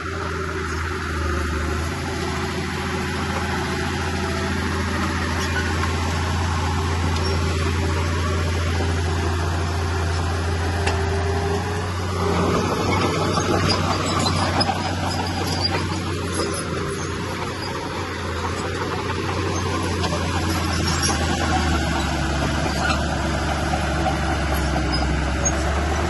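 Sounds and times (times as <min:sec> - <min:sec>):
bulldozer diesel engine droning: 0:00.0 - 0:26.0.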